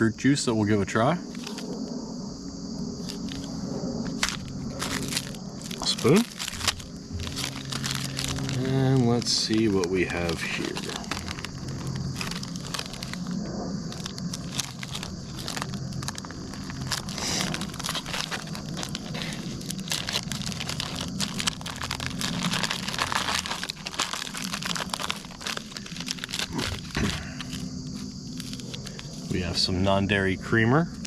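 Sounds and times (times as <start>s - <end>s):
plastic wrappers crinkling: 3.0s - 29.5s.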